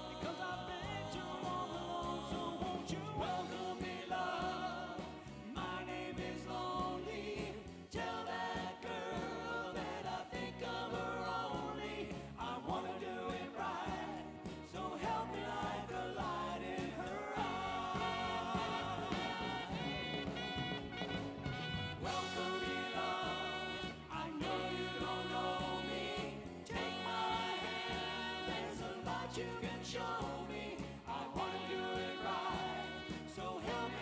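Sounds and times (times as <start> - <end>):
doo-wop band playing: 0.0 - 34.0
vocal group singing in harmony: 0.0 - 34.0.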